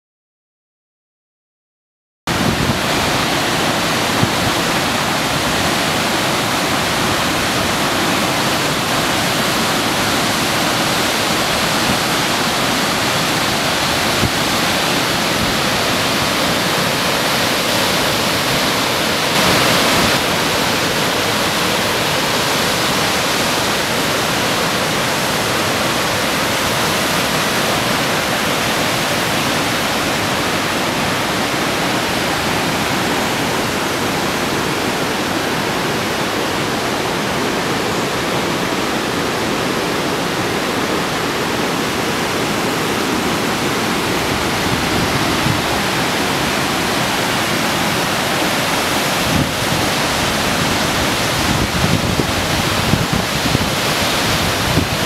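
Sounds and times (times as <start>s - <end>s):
waterfall rushing over rocks: 2.3s - 55.0s.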